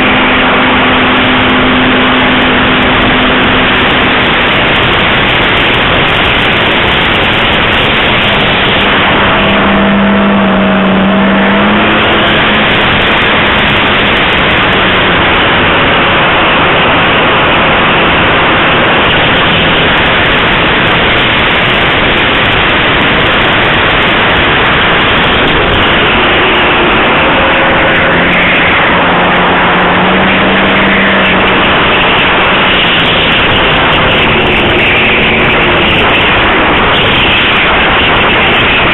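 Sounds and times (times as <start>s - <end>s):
wind rush: 0.0s - 38.9s.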